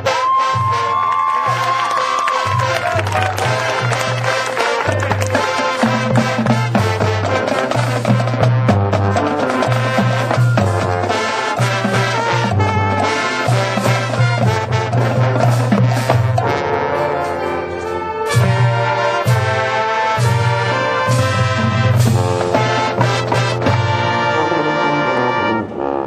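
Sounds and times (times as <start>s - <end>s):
low brass bass notes: 0.0s - 26.0s
marching band playing: 0.0s - 26.0s.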